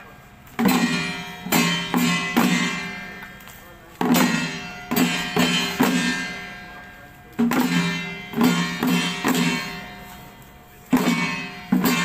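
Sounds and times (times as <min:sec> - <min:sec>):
gongs and cymbals struck: 0:00.0 - 0:12.0.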